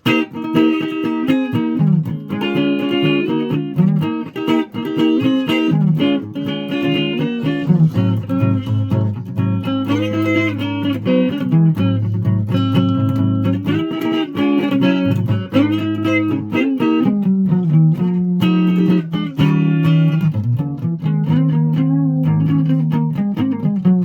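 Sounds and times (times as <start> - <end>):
untuned guitar plucking: 0.0 - 24.0.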